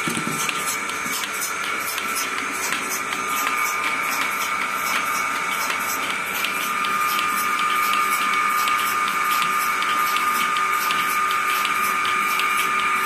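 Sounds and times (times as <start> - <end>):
vacuum pump whine: 0.0 - 13.0
rhythmic hissing pulsator ticks: 0.4 - 12.5.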